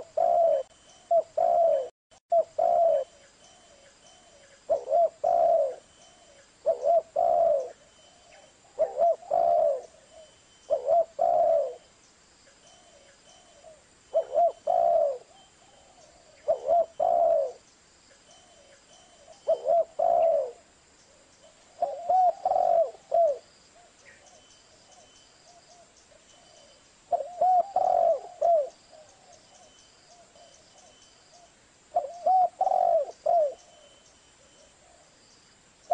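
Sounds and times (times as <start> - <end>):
dove cooing: 0.0 - 11.9, 12.7 - 17.6, 18.4 - 35.2.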